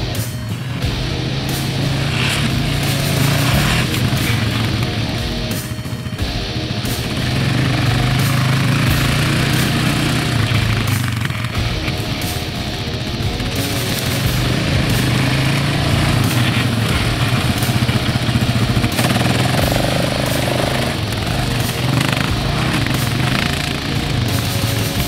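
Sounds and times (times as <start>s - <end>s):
quad bike engine running: 0.0s - 25.0s.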